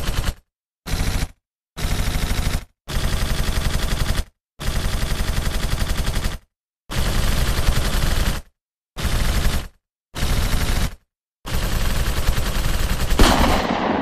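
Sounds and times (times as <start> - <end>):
machine-gun fire bursts: 0.0 - 14.0.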